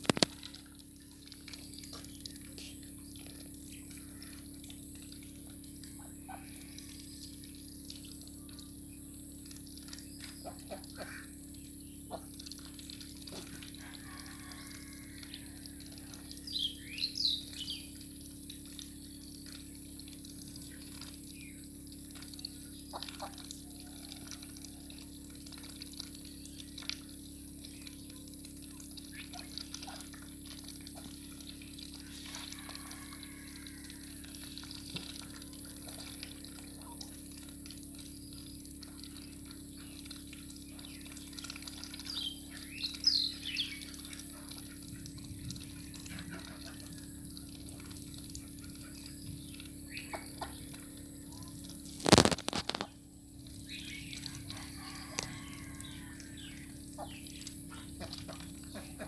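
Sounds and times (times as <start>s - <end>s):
ducks slurping wet feed: 0.0s - 59.0s.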